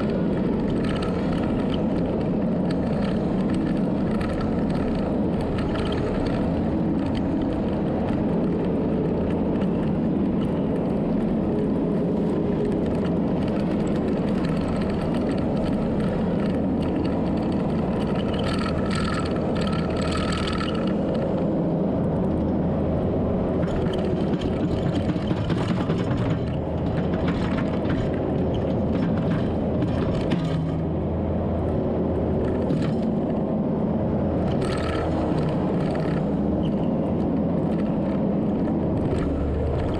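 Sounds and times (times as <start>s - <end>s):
earthmoving machine diesel engine: 0.0s - 39.9s.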